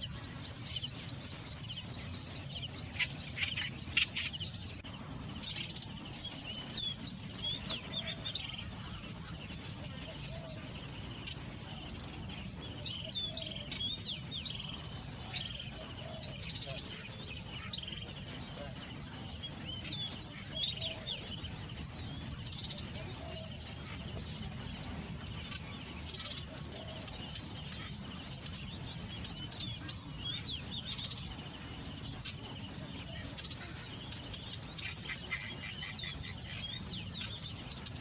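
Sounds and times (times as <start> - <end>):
low background rumble: 0.0 - 38.0
small birds chirping: 0.0 - 38.0.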